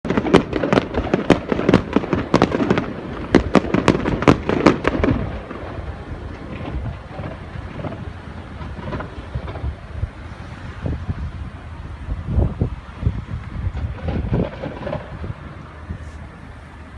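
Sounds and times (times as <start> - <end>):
fireworks low rumble: 0.0 - 16.9.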